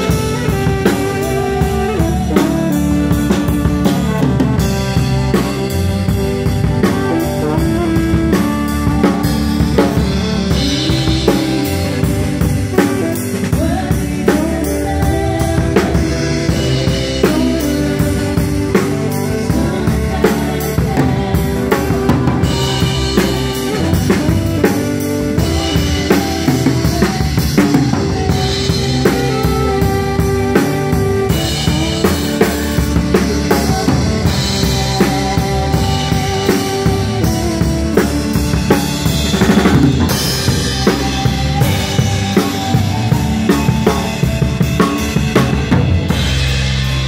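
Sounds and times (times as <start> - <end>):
bass guitar: 0.0 - 47.0
guitar: 0.0 - 47.0.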